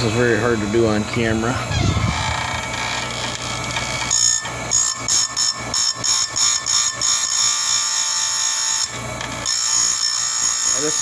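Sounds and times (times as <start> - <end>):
grinder motor humming: 0.0 - 11.0
high-pitched grinding whine: 0.0 - 11.0.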